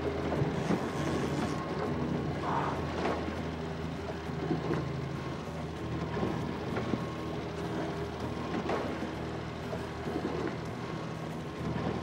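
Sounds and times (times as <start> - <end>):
boat motor running: 0.0 - 12.0
wind: 0.0 - 12.0.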